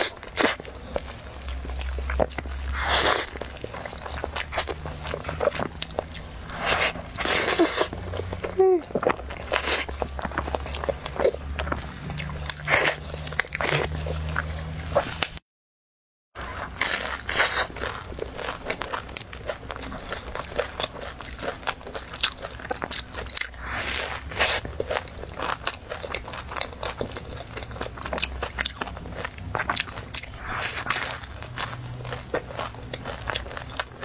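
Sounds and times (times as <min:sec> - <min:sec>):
crunchy pie being eaten: 0:00.0 - 0:15.1, 0:16.4 - 0:34.0
chewing with crackles: 0:00.0 - 0:15.4, 0:16.4 - 0:34.0.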